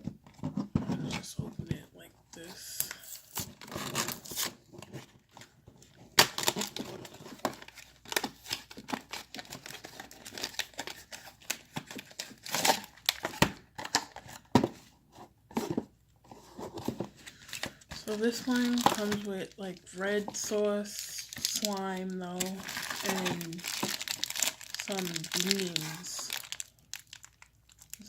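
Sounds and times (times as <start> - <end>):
plastic packaging crinkling and tearing: 2.4 - 14.5, 16.8 - 28.0.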